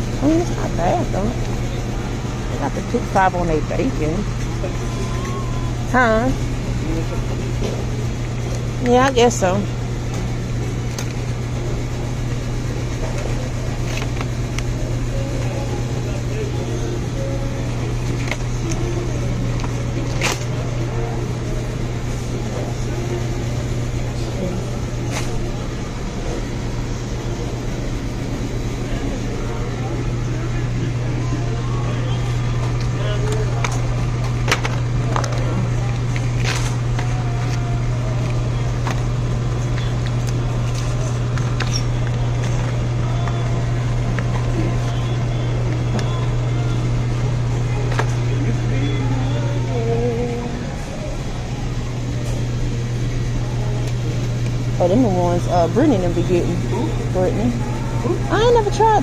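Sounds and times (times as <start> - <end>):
faint voices: 0.0 - 59.0
steady low hum: 0.0 - 59.0.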